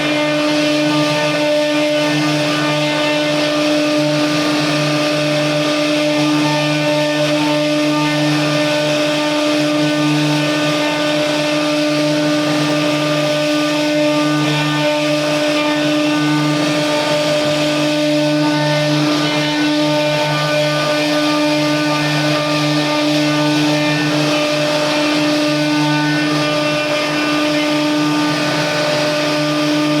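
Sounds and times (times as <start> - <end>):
router spindle whine: 0.0 - 30.0.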